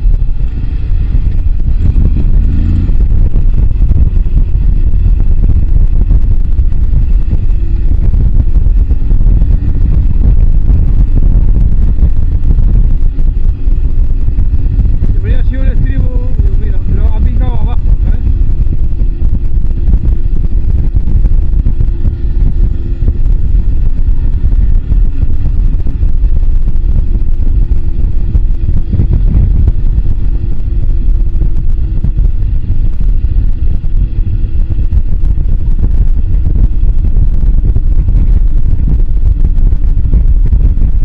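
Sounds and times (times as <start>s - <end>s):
motorcycle engine running: 0.0s - 41.0s
wind rumble on microphone: 0.0s - 41.0s.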